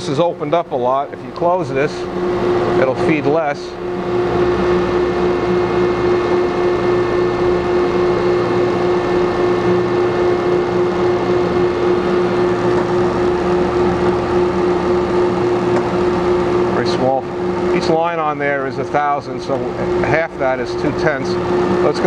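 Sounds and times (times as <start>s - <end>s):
grinder machine humming and whining: 0.0s - 22.0s.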